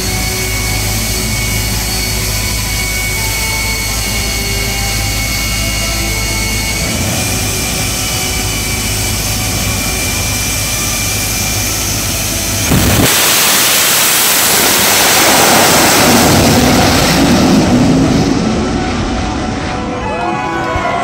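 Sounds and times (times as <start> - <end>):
jet engine roaring at full thrust: 0.0 - 21.0
jet engine whining: 0.0 - 21.0.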